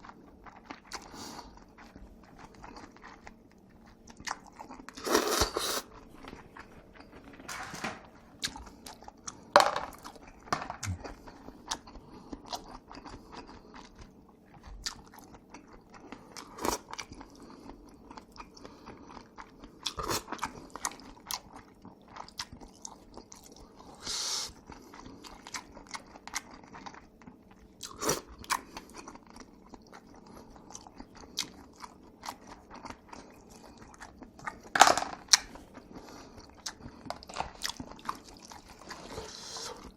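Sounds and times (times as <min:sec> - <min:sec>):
wet chewing of noodles: 0:00.0 - 0:07.5, 0:08.1 - 0:39.9.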